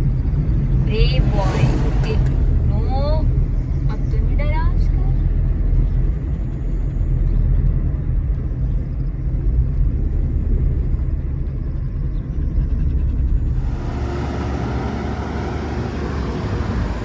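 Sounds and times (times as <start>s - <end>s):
car interior engine and road noise: 0.0s - 17.0s.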